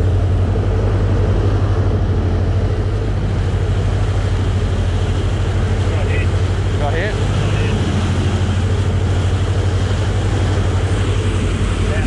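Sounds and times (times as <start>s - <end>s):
boat engine humming: 0.0s - 12.0s
churning wake rushing: 0.0s - 12.0s
wind on microphone: 0.0s - 12.0s.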